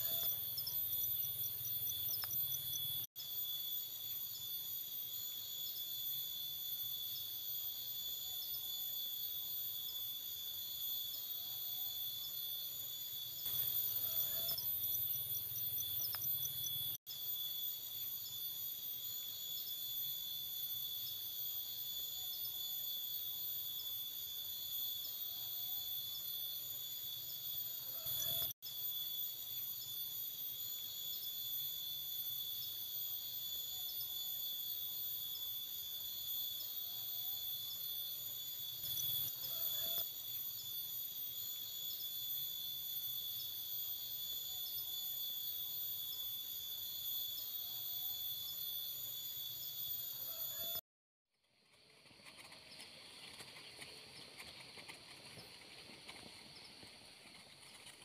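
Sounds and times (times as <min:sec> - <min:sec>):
crickets trilling: 0:00.0 - 0:50.8, 0:51.5 - 0:58.0.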